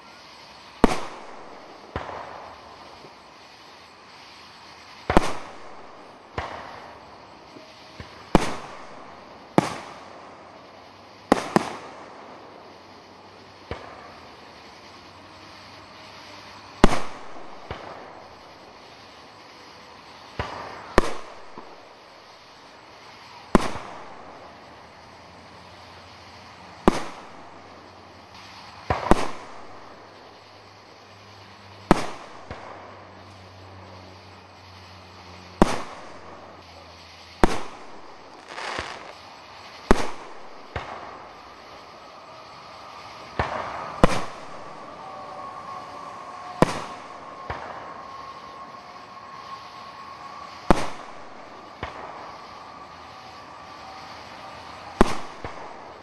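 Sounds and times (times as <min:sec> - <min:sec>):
firework bangs echoing: 0:00.0 - 0:25.0, 0:26.2 - 0:30.8, 0:31.8 - 0:33.4, 0:35.4 - 0:56.0.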